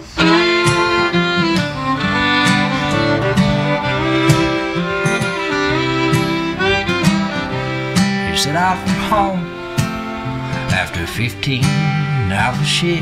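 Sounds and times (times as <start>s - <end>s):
fiddle long held notes: 0.0s - 13.0s
strummed acoustic guitar: 0.0s - 13.0s.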